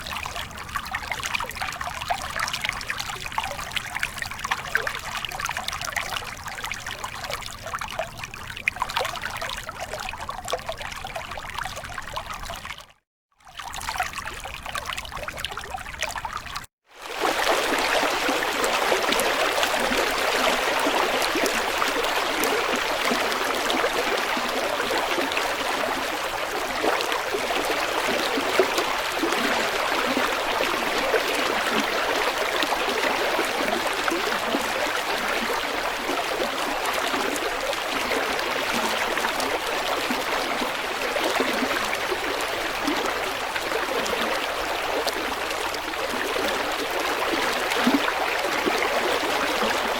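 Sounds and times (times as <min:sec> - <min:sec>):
stream flowing: 0:00.0 - 0:12.9, 0:13.5 - 0:49.9.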